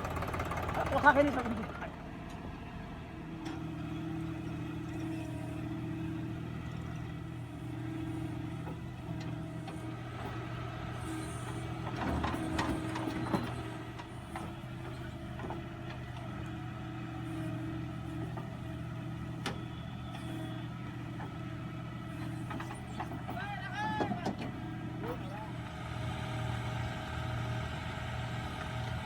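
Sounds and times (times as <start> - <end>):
tractor diesel engine idling: 0.0 - 29.0.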